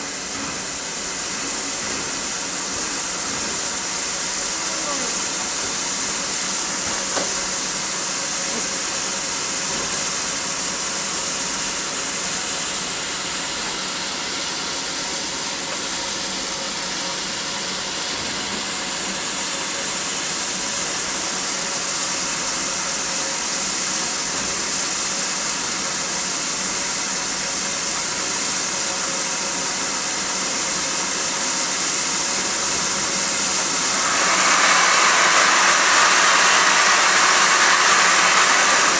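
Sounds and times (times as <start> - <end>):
steam hissing: 0.0 - 38.9.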